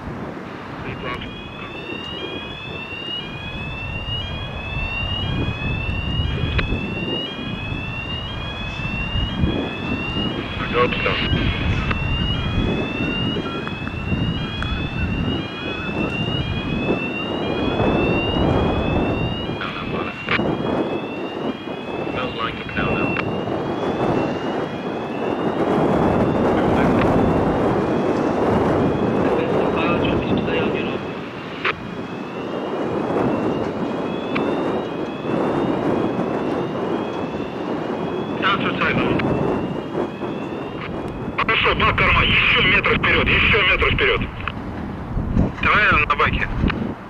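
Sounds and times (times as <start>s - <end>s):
distant engines: 0.0s - 47.0s
wind rumble on microphone: 0.0s - 47.0s
rising electronic alarm tone: 0.8s - 43.6s.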